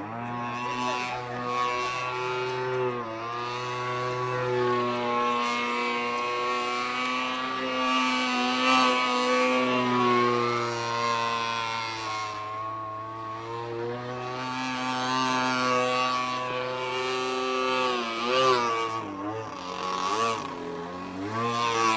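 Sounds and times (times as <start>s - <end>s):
model plane motor and propeller: 0.0s - 21.9s.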